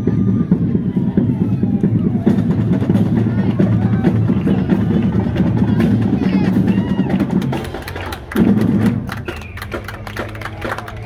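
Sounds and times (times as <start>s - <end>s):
marching drumline cadence: 0.0s - 11.0s.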